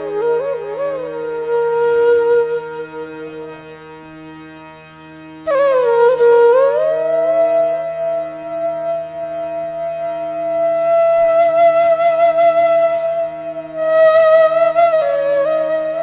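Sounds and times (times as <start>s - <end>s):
flute holding long note: 0.0s - 3.8s, 5.4s - 16.0s.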